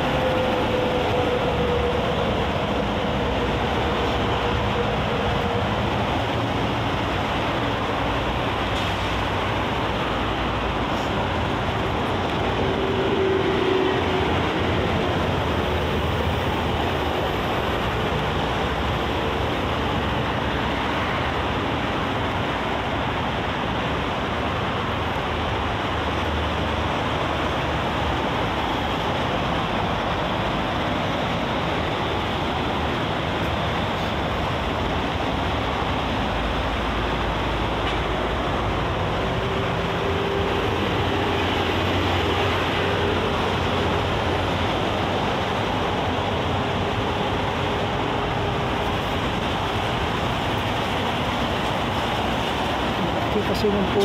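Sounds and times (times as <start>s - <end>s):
expressway traffic rushing: 0.0s - 54.0s.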